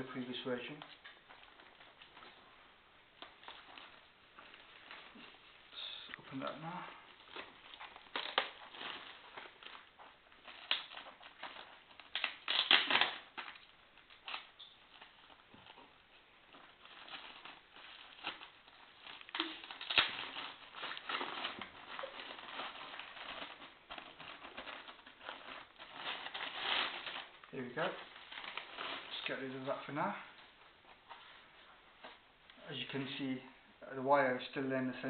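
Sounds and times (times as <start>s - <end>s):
packaging rustling: 0.7s - 31.4s.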